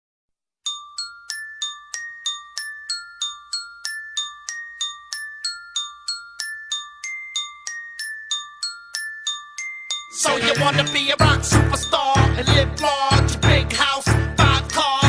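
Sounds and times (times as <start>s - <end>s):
glockenspiel-like bell melody: 0.6s - 15.0s.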